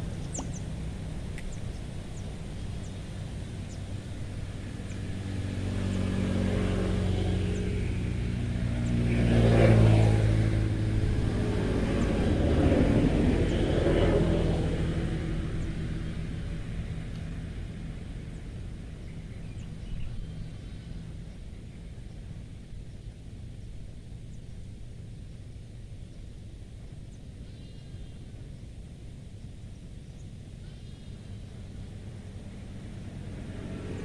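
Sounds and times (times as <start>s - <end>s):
vehicles passing by: 0.0s - 25.3s, 29.2s - 34.0s.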